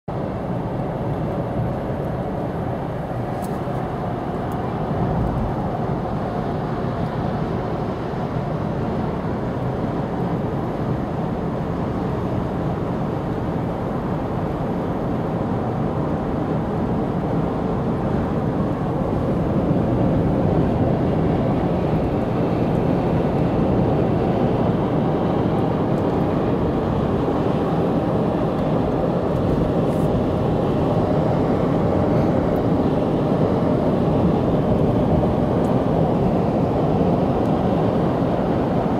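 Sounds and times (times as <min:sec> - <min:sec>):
vehicle road and engine rumble: 0:00.1 - 0:38.9.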